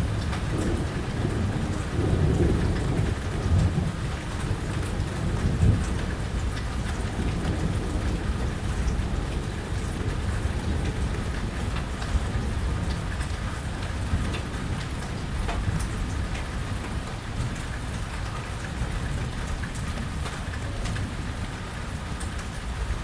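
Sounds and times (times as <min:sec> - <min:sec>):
heavy rain falling: 0:00.0 - 0:23.0
low thunder rumbling: 0:00.0 - 0:23.0.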